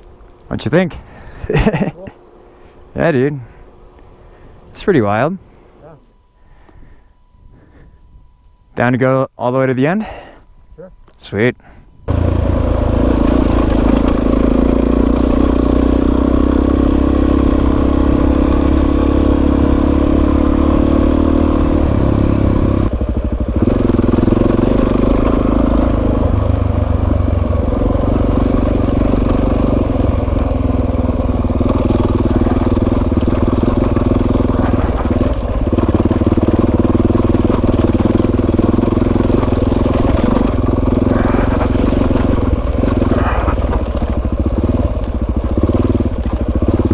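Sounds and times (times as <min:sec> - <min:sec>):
motorcycle engine running: 0:00.0 - 0:06.1, 0:12.0 - 0:46.9.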